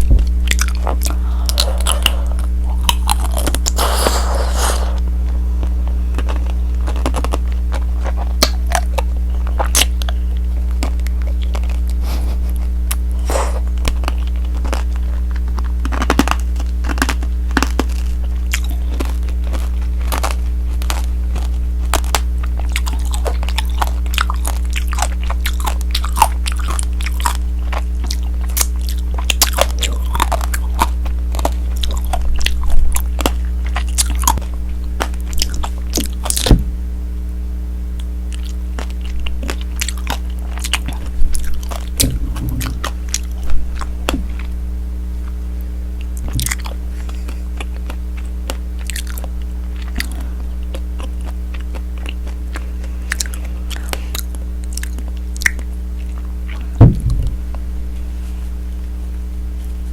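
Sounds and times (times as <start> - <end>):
low electrical hum: 0.0 - 59.9
candy shell crunching while chewing: 0.4 - 36.5, 38.0 - 44.6, 45.2 - 56.8.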